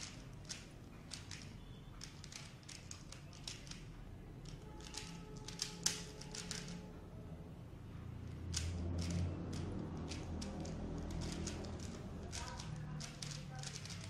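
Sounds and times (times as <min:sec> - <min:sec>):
puzzle cube layers clicking: 0:00.0 - 0:06.8, 0:08.4 - 0:14.0.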